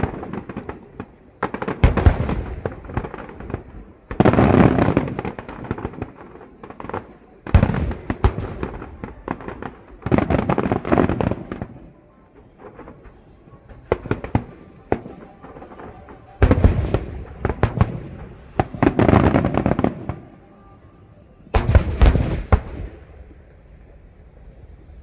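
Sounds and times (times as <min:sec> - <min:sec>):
fireworks bangs and crackle: 0:00.0 - 0:20.3, 0:21.6 - 0:23.9.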